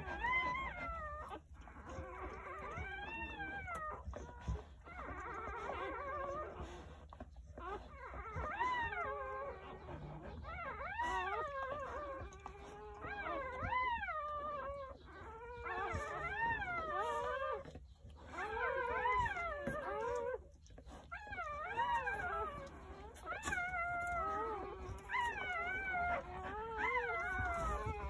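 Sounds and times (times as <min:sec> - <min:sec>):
puppies whining: 0:00.0 - 0:28.0.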